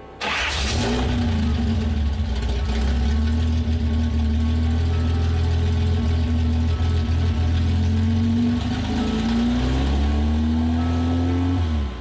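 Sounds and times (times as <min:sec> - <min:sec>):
car engine idling: 0:00.2 - 0:12.0.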